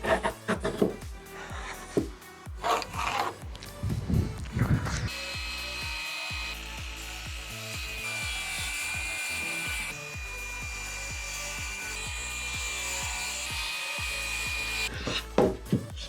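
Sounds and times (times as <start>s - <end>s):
music with low thumping beat: 0.0s - 16.0s.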